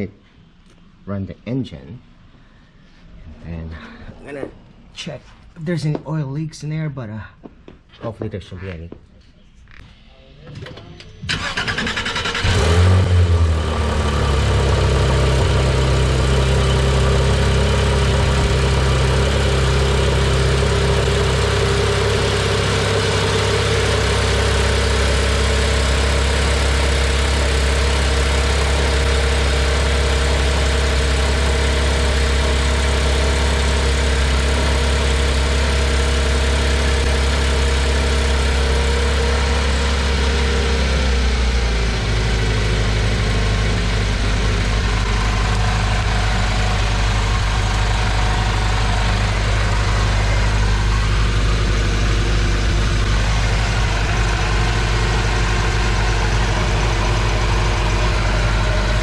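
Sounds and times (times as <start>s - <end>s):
car engine idling: 11.3s - 59.0s.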